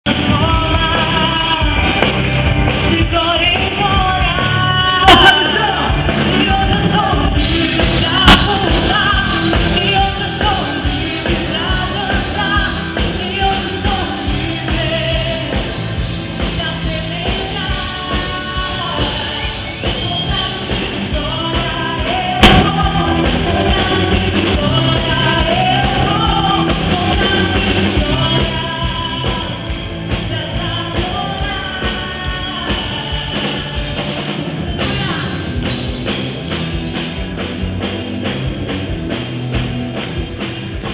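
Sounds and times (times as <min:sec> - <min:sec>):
rock band playing: 0:00.0 - 0:40.9
person singing: 0:00.1 - 0:15.8, 0:16.4 - 0:35.7.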